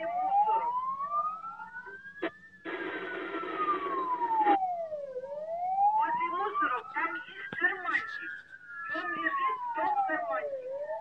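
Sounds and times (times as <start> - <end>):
ambulance siren wailing: 0.0 - 11.0.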